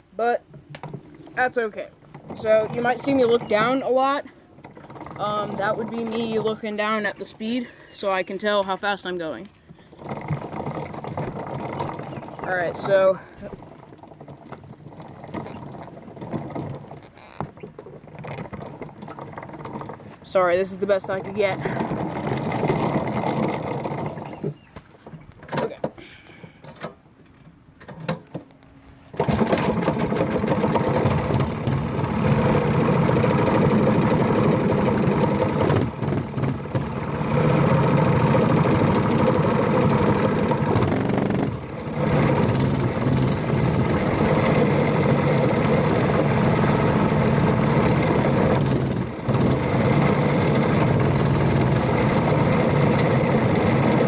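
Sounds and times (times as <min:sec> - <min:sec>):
single-cylinder engine running: 0:00.7 - 0:26.8, 0:28.2 - 0:54.0.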